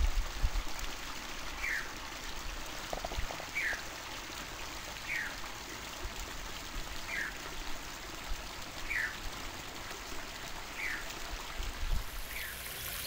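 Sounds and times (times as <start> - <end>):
water splashing down waterfall: 0.0 - 13.0.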